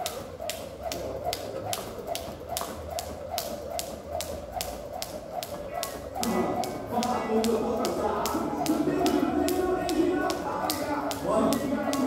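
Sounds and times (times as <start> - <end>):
jump rope slapping concrete: 0.0 - 12.0.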